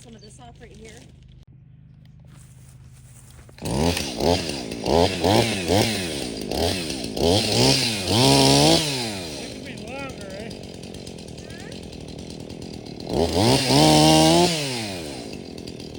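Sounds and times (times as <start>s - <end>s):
chainsaw idling and revving: 2.2s - 15.9s.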